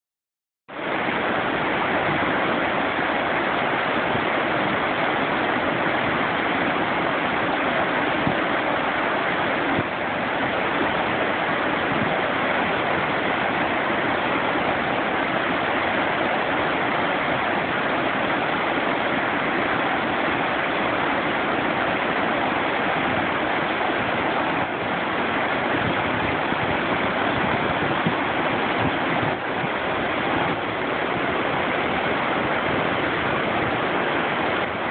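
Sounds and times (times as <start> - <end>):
river rapids rushing over boulders: 0.8 - 34.9.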